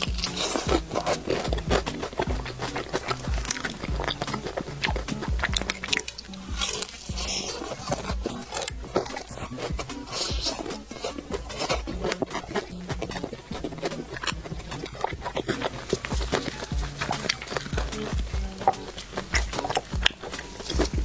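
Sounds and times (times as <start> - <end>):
close chewing sounds: 0.0 - 21.0
quiet background music: 0.0 - 21.0.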